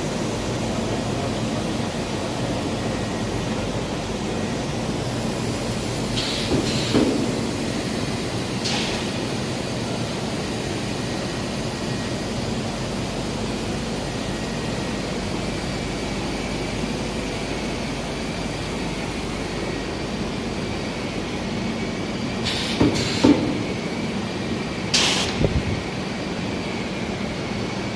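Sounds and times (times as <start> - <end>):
machine hum and hiss: 0.0 - 27.9.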